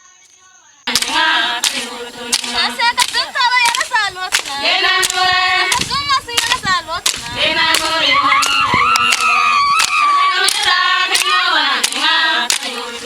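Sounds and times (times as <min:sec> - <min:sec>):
group of people singing: 0:00.0 - 0:13.0
hand claps keeping time: 0:00.9 - 0:13.0.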